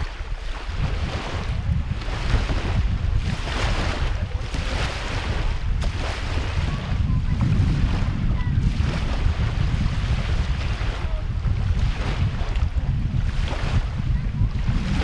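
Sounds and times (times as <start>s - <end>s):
lake waves lapping on shore: 0.0s - 15.0s
wind buffeting microphone: 0.0s - 15.0s.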